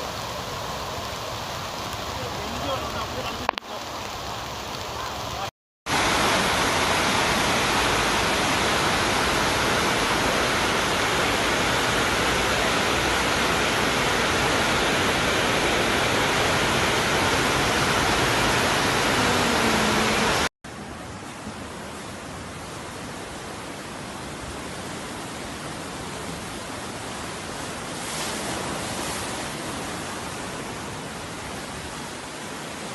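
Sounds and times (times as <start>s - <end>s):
loud rush of water: 0.0s - 32.9s.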